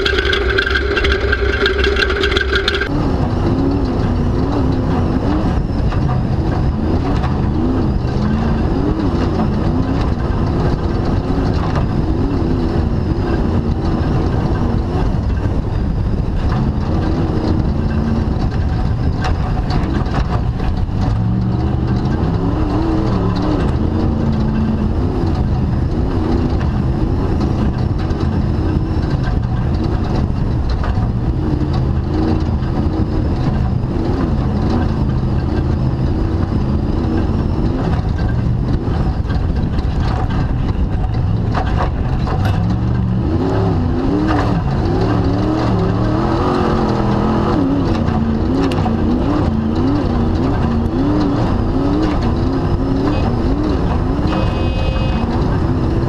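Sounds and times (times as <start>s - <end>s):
chassis rattling and knocking: 0.0s - 2.9s, 5.7s - 56.0s
race car engine running hard: 0.0s - 56.0s.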